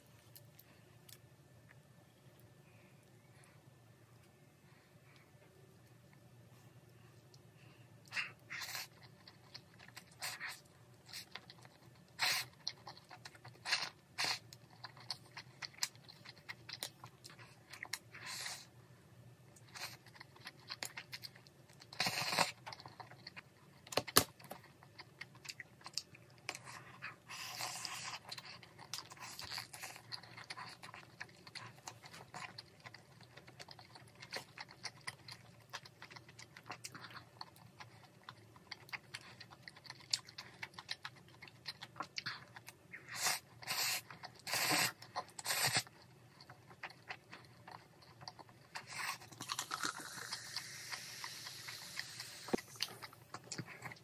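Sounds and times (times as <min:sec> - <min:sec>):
chewing: 0:08.0 - 0:18.7, 0:19.5 - 0:54.0.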